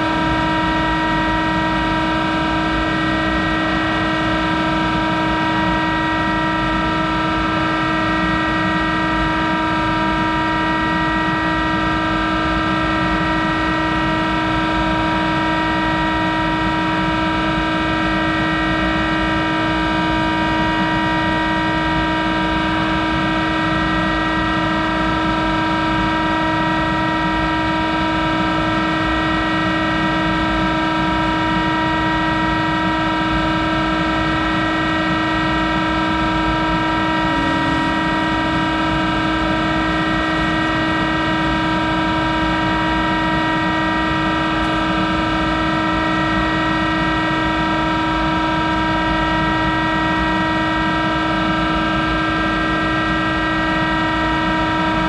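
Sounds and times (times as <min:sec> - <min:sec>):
lathe humming and whining: 0:00.0 - 0:55.0.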